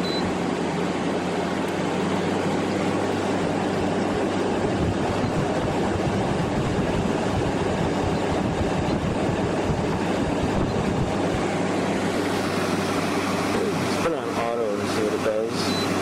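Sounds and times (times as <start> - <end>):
air conditioner running: 0.0 - 16.0.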